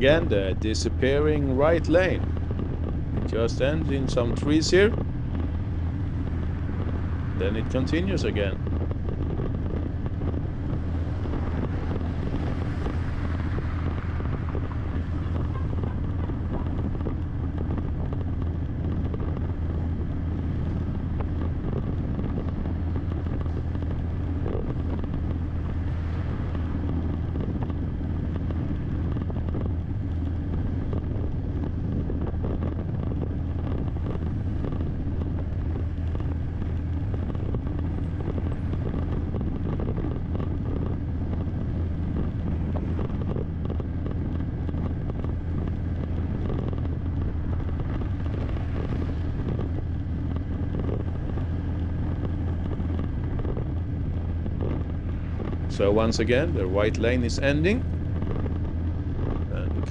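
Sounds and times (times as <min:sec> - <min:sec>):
vehicle engine and road noise: 0:00.0 - 0:59.9
wind noise on microphone: 0:00.0 - 0:59.9.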